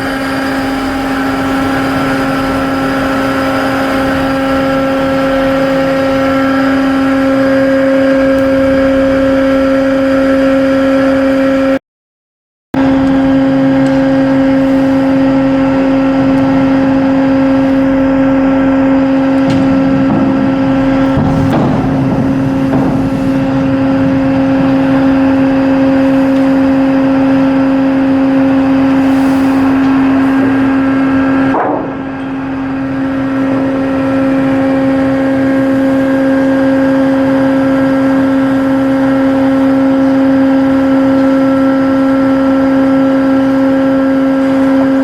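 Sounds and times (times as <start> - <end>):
ship diesel engine droning: 0.0 - 11.8, 12.8 - 45.0.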